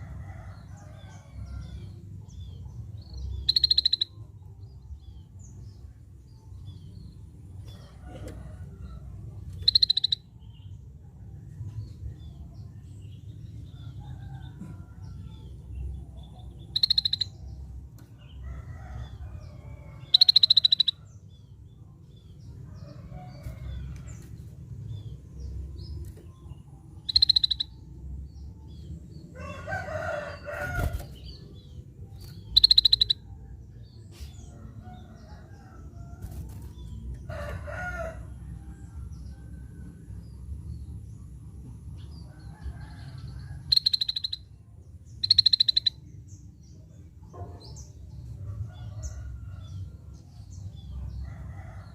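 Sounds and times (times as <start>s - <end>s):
low background rumble: 0.0s - 51.2s.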